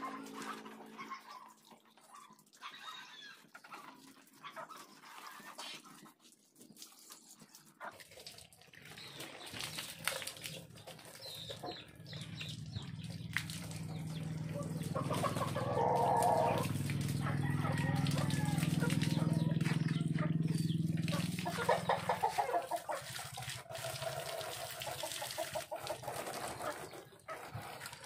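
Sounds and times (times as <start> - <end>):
farm animals calling: 0.0 - 8.0, 8.7 - 28.0
scrubbing and sloshing soapy water: 0.0 - 28.0.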